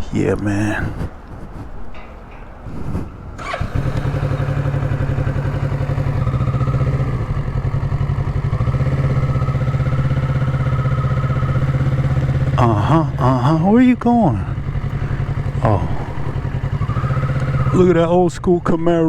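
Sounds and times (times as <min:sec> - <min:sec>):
motorcycle engine starting and idling: 0:01.9 - 0:19.0.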